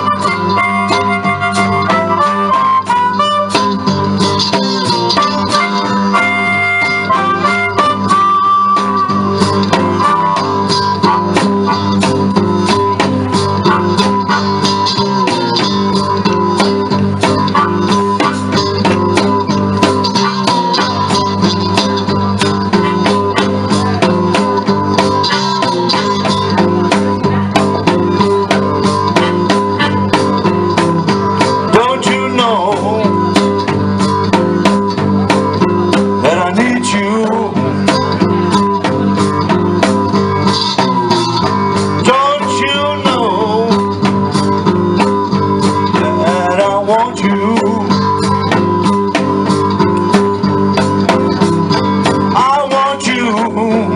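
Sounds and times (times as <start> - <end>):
lead guitar with bent notes: 0.0 - 53.9
strummed blues guitar rhythm: 0.0 - 53.9.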